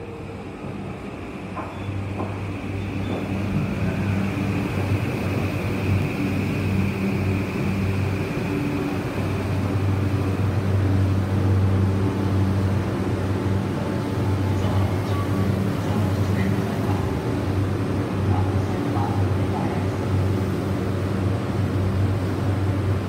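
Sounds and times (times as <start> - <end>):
electric train hum and wheel rumble: 0.0 - 23.0
high train whine: 0.0 - 23.0.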